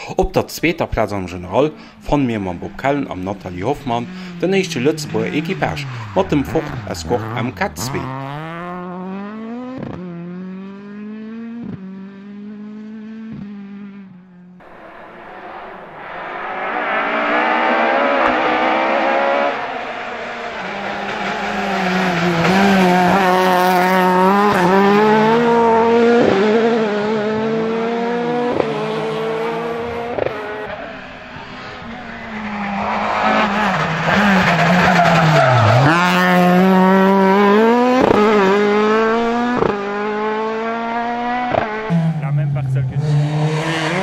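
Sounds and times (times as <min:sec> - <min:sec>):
rally car engine revving: 0:01.0 - 0:44.0.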